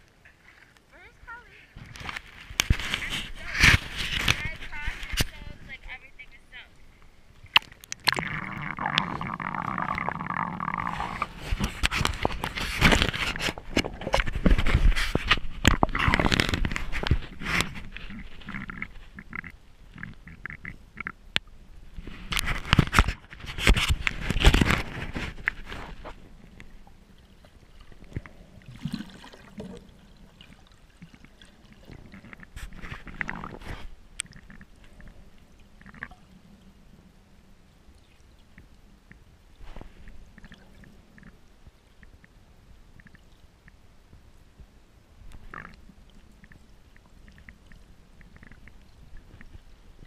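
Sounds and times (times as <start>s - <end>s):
muffled underwater sounds: 0.0s - 50.0s
water splashing and sloshing: 0.0s - 50.0s.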